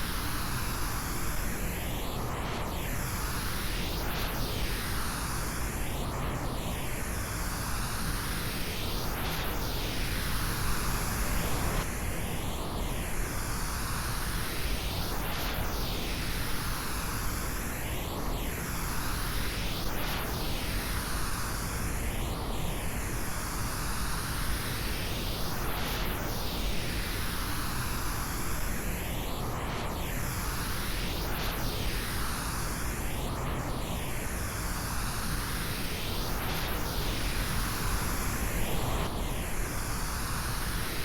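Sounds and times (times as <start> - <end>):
circling pink noise hiss: 0.0 - 41.0.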